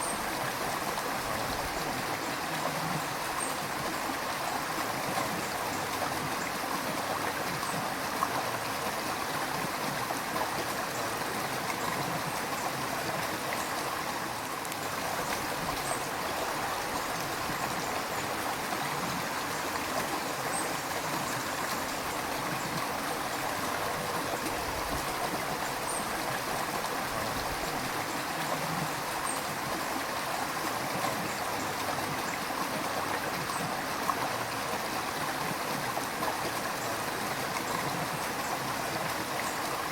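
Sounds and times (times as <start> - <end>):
river rushing and gurgling: 0.0 - 39.9.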